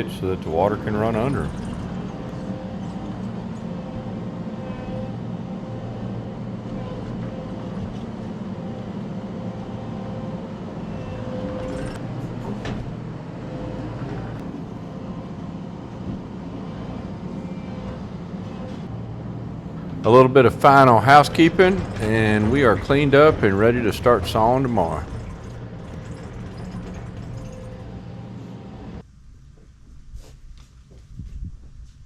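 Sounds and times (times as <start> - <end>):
hydraulic whine: 0.0 - 29.1
loader engine running: 0.0 - 29.1.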